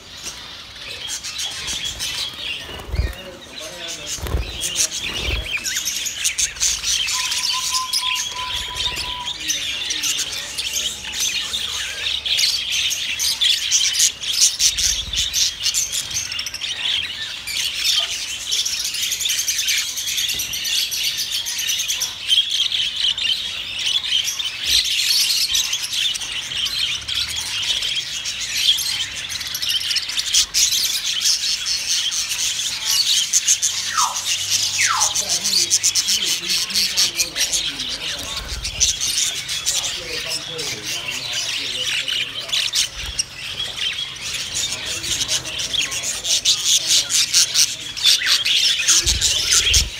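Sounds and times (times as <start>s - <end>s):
budgerigars chattering and chirping: 0.0s - 49.9s.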